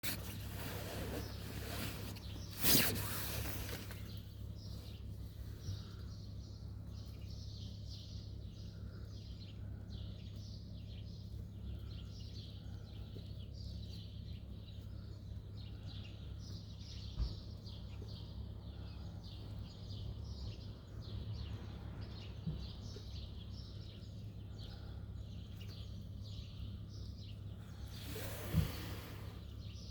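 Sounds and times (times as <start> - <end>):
low city hum: 0.0 - 29.9
small birds chirping: 0.0 - 29.9.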